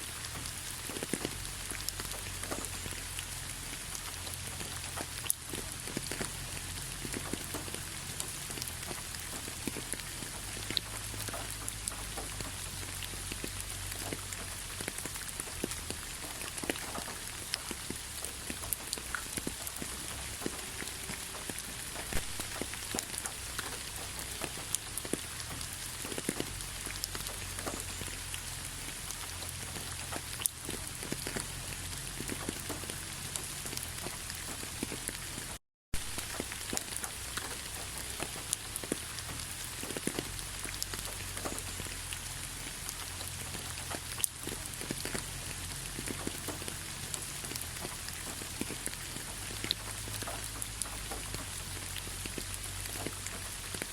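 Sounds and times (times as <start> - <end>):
light rain falling: 0.0 - 53.9.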